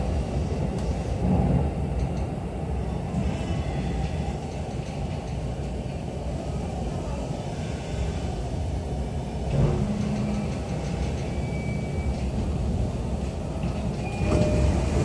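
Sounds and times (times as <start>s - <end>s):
train car low rumble: 0.0s - 15.0s.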